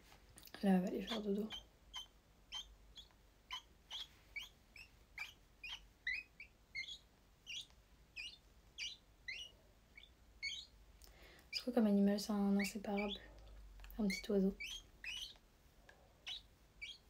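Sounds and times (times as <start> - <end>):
bird chick chirping: 0.8 - 10.8, 12.4 - 15.4, 16.2 - 17.0.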